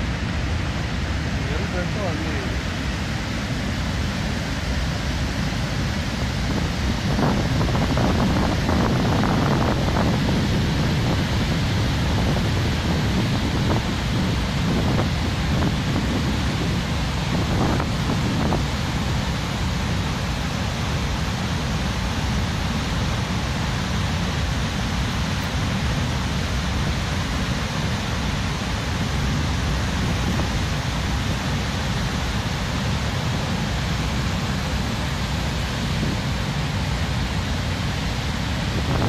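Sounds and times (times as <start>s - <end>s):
large waterfall rushing: 0.0s - 39.0s.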